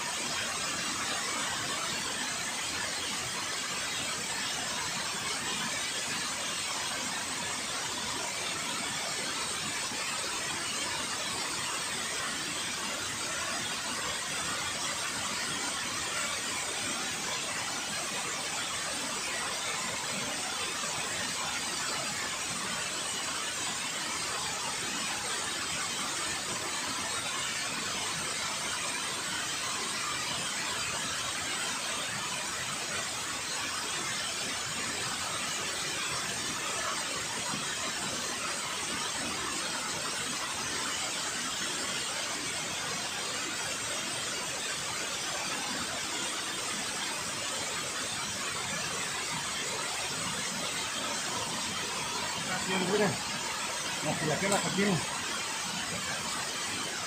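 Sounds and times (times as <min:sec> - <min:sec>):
water rushing over dam spillway: 0:00.1 - 0:57.0.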